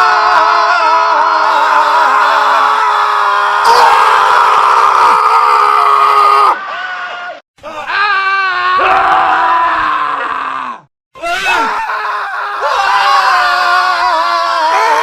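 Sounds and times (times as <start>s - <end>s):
man screaming: 0.0s - 15.0s.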